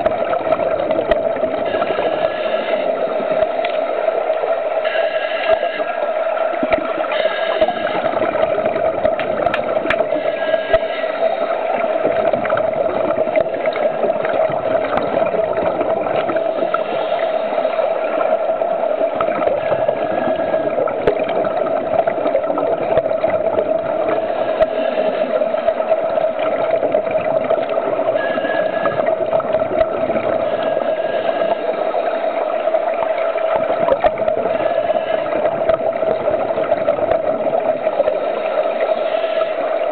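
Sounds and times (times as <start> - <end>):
bubbling hiss of exhaled bubbles: 0.0 - 39.9
steady underwater hum: 0.0 - 39.9.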